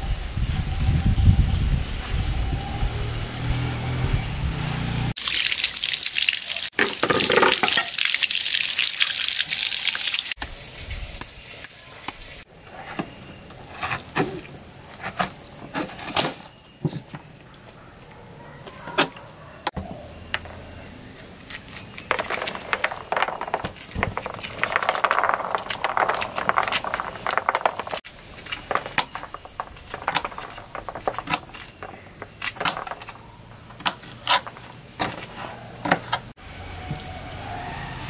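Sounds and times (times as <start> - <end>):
high insect drone: 0.0 - 17.4, 19.7 - 38.0.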